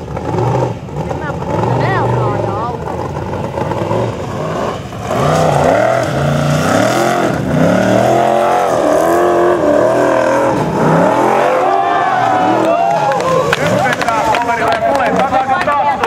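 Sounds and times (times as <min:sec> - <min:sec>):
buggy engine revving hard: 0:00.0 - 0:16.0.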